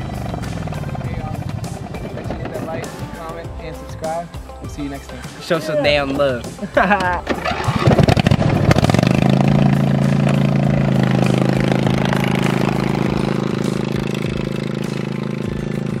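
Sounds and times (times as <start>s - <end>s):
riding lawn mower engine idling: 0.0s - 4.6s, 5.4s - 16.0s.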